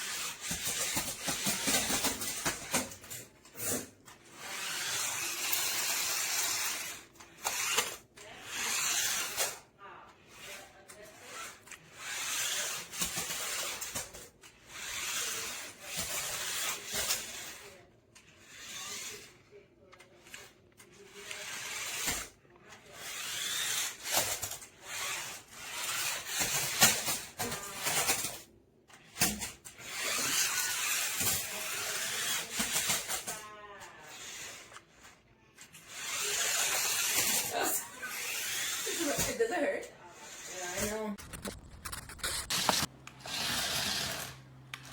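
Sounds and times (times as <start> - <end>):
toy car electric motors whirring: 0.0 - 44.9.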